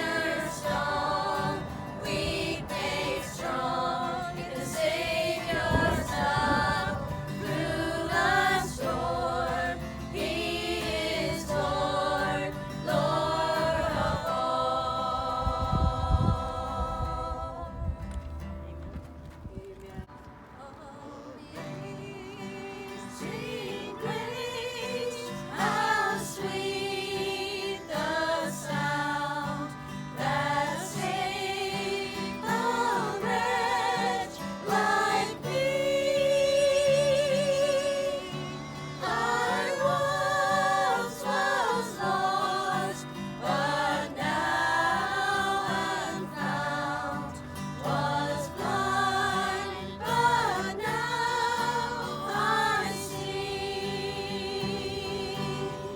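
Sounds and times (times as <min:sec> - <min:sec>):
voices singing a hymn: 0:00.0 - 0:55.9.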